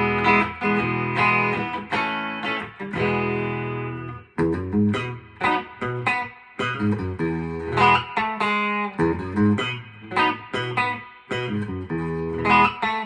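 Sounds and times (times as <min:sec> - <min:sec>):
clean electric guitar: 0:00.0 - 0:13.0.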